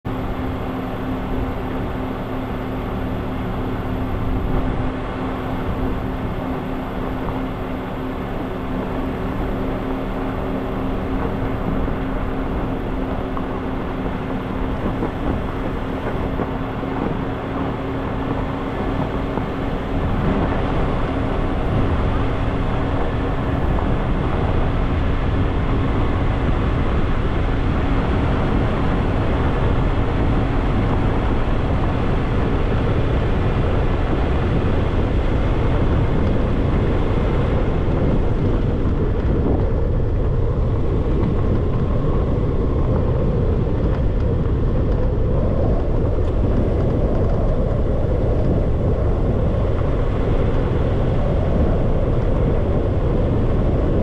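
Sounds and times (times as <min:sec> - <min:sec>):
car engine drone: 0:00.0 - 0:54.0
road noise: 0:00.0 - 0:54.0
wind noise: 0:00.0 - 0:54.0.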